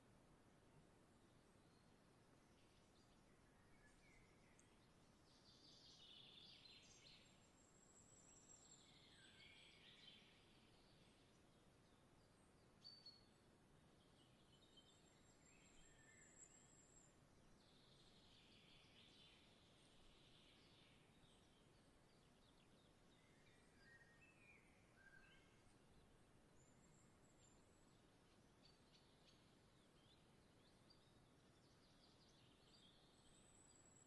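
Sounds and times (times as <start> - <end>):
background hiss: 0.0 - 34.0
songbird chirping: 0.0 - 34.0.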